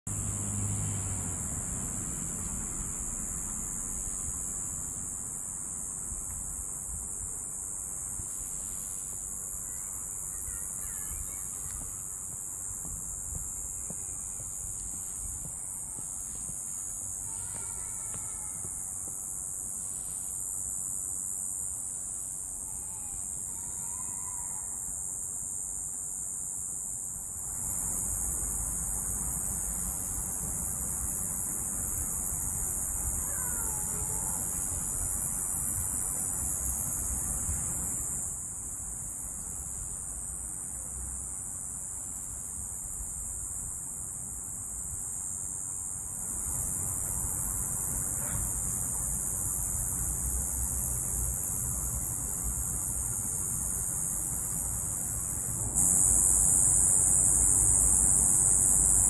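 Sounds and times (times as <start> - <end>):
high-pitched insect shrill: 0.1 - 59.0.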